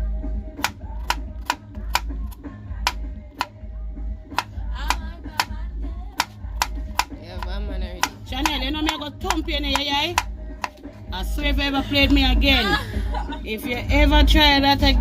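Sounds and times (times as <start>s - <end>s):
music through portable speaker: 0.0s - 15.0s.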